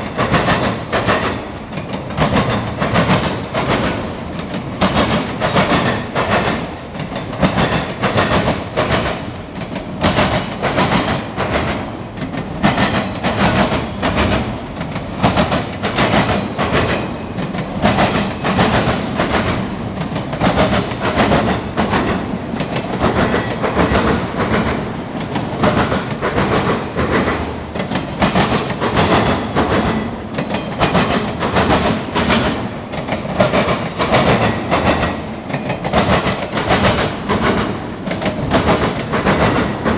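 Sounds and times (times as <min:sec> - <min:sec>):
rumble of wheels on rail: 0:00.0 - 0:39.9
train wheels clicking over rail joints: 0:00.0 - 0:39.9.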